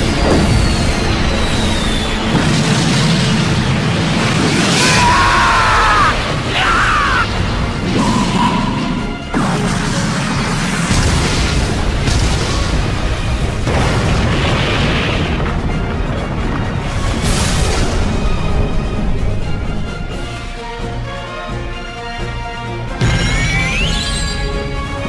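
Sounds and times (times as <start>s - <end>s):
energy blasts and explosions: 0.0s - 20.4s
background music: 0.0s - 25.0s.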